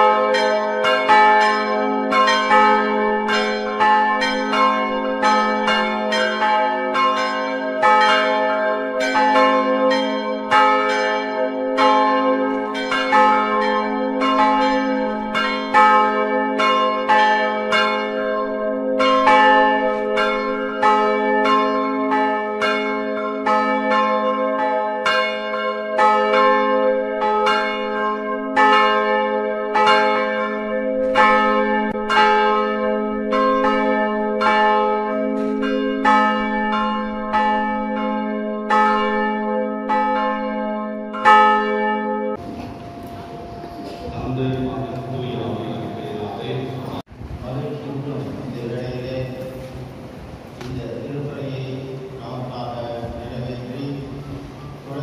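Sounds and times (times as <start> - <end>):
church bells ringing a peal: 0.0 - 55.0.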